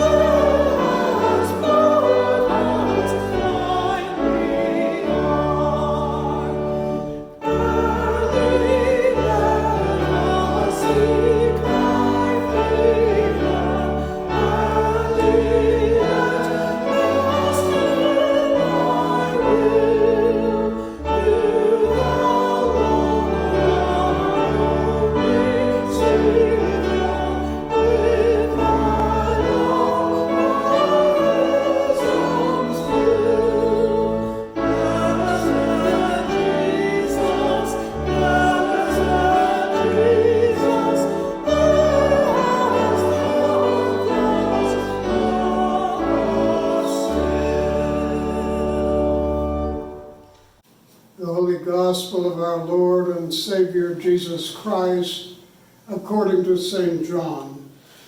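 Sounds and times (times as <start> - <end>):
choir singing: 0.0 - 50.4.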